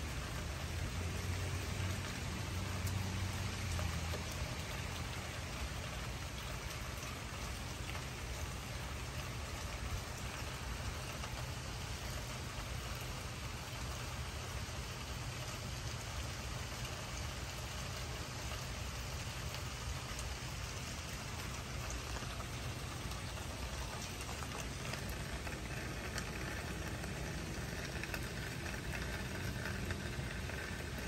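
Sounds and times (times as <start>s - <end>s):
low steady rumble: 0.0s - 31.0s
rain on wet pavement: 0.0s - 31.0s.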